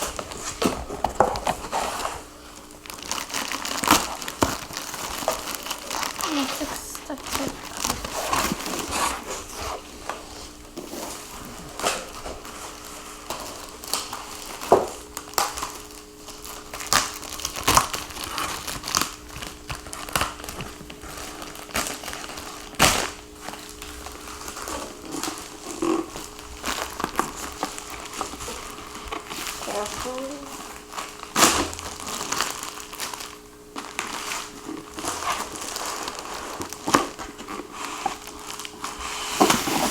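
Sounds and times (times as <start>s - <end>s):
packing material crinkling and tearing: 0.0s - 39.9s.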